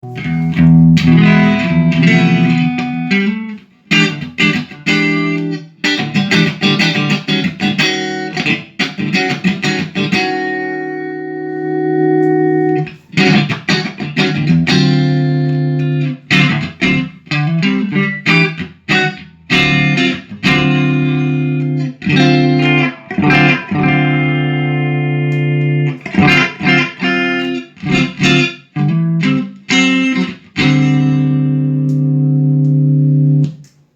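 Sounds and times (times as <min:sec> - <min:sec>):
electric guitar chords: 0:00.0 - 0:33.9.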